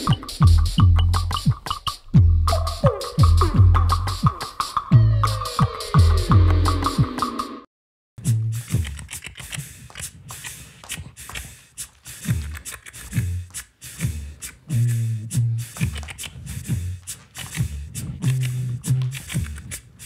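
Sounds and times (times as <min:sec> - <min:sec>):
human beatbox beat: 0:00.0 - 0:07.6, 0:08.2 - 0:20.0.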